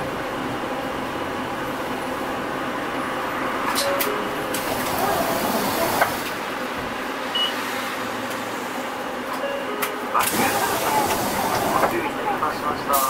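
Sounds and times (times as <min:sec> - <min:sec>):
bus engine hum: 0:00.0 - 0:13.0.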